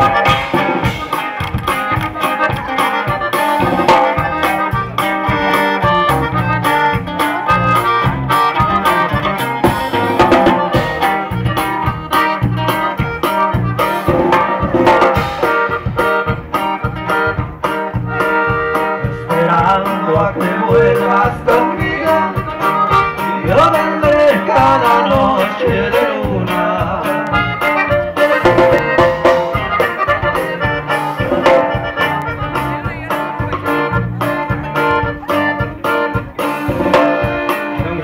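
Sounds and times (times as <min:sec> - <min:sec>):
live band over loudspeakers: 0:00.0 - 0:38.0.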